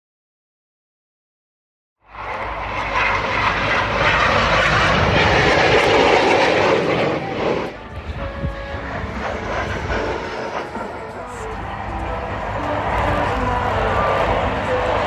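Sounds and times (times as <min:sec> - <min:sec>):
jet engines roaring: 0:02.0 - 0:15.0.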